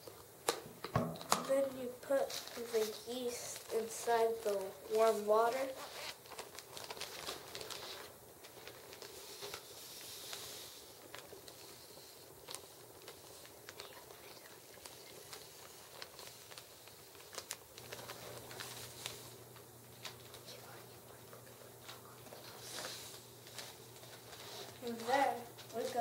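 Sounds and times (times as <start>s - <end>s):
plastic bag crinkling: 1.2s - 26.0s.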